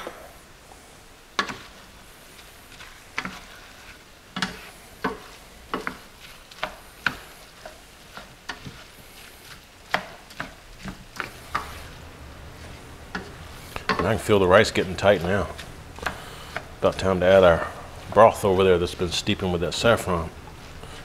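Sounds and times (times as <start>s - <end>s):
faint sizzle: 0.0s - 21.0s
spatula scraping a pan: 1.4s - 21.0s.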